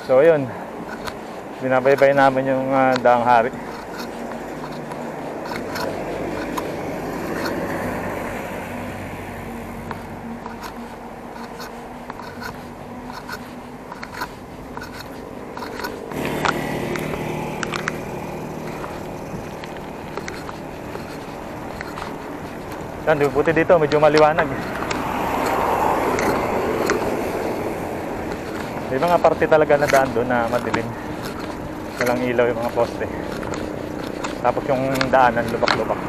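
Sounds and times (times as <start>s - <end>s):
bicycle road and wind rush: 0.0s - 36.0s
small rattles and clicks: 0.8s - 36.0s.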